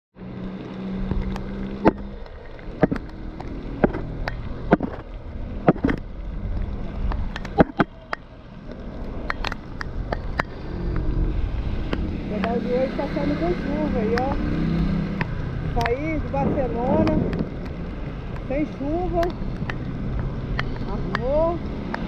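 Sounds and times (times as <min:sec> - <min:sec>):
rushing wind: 0:00.4 - 0:22.0.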